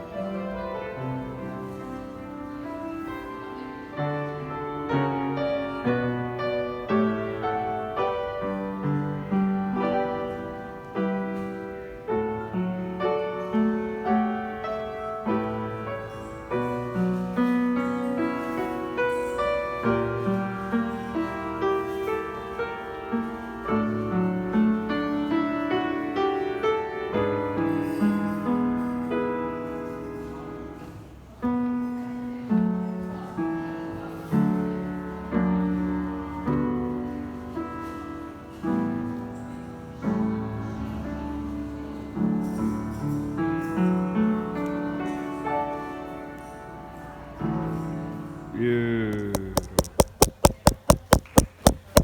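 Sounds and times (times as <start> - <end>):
gentle solo piano: 0.0 - 48.6.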